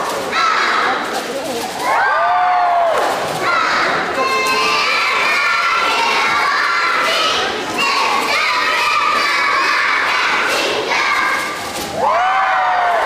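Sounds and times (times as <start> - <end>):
children shouting and cheering: 0.0 - 1.1, 1.8 - 13.0.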